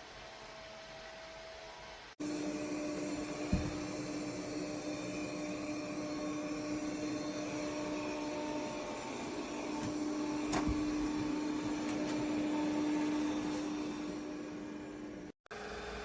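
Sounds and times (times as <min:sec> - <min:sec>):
robot vacuum motor hum: 0:02.2 - 0:15.3.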